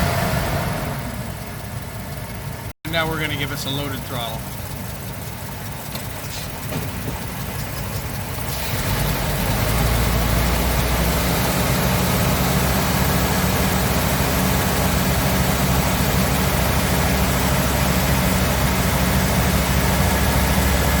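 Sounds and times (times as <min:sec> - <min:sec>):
engine running with misfire: 0:00.0 - 0:21.0.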